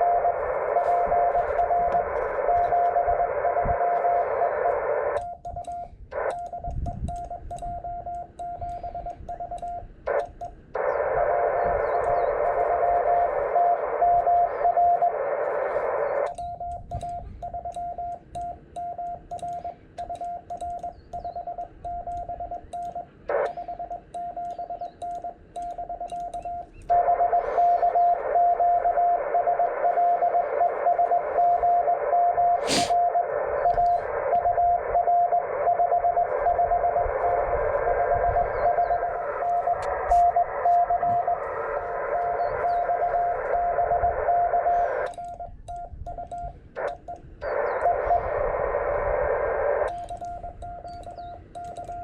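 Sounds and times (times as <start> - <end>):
morse code tone: 0.0 - 52.0
receiver hiss: 0.0 - 52.0.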